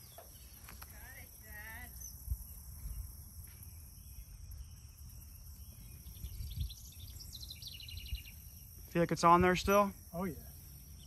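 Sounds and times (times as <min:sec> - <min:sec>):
bird chirps: 0:00.0 - 0:11.0
high insect drone: 0:00.0 - 0:11.0.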